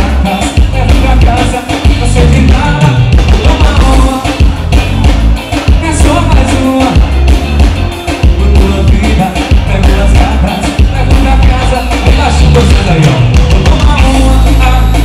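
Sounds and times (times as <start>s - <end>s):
live band playing: 0.0s - 15.0s
man singing: 0.0s - 15.0s.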